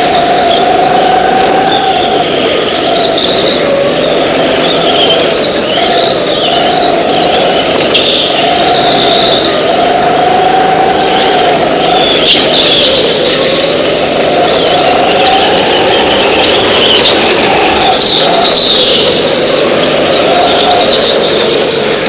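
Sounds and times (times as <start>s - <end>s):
go-kart engines racing: 0.0s - 22.0s.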